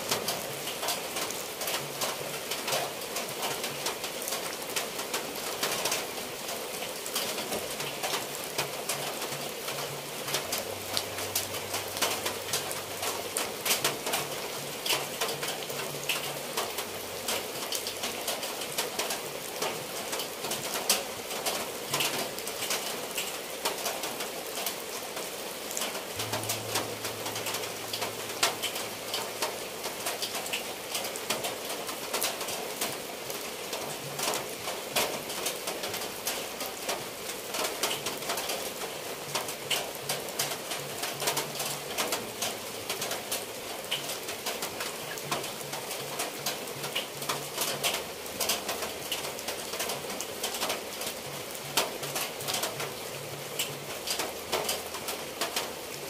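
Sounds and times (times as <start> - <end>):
rain on a tiled roof: 0.0 - 56.0.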